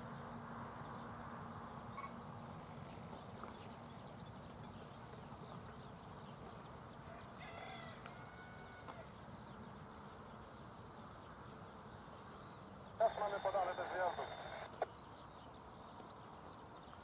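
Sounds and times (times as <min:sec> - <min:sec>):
distant bird calls: 0:00.0 - 0:17.0.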